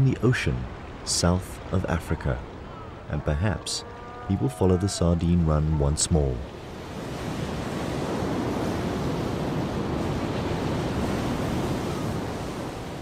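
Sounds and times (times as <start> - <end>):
waves crashing over rocks: 0.0 - 13.0.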